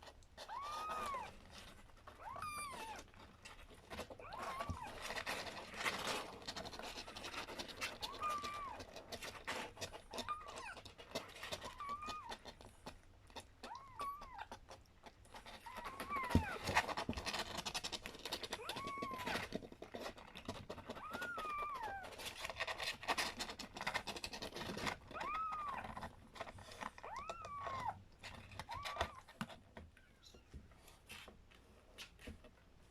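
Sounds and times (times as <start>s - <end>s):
scratching and rustling clicks: 0.0s - 32.9s.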